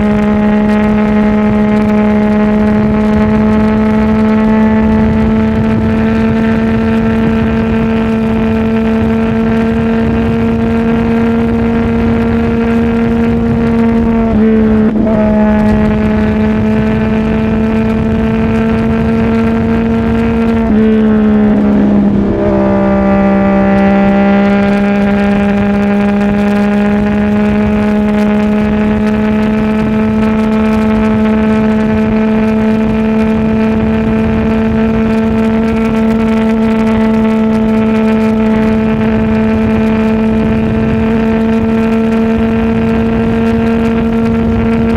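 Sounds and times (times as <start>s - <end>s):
motorcycle exhaust at steady pitch: 0.0s - 44.9s.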